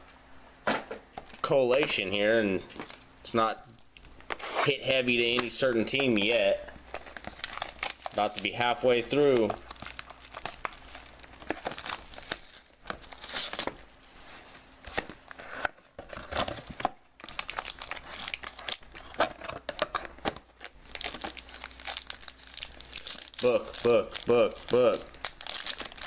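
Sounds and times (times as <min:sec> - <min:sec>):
plastic wrapping crinkling and tearing: 0:04.0 - 0:13.9, 0:14.8 - 0:26.0.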